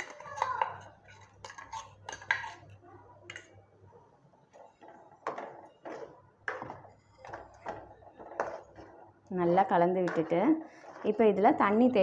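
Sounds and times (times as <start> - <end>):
ladle knocking and scraping pot: 0.0 - 3.5, 4.5 - 12.0.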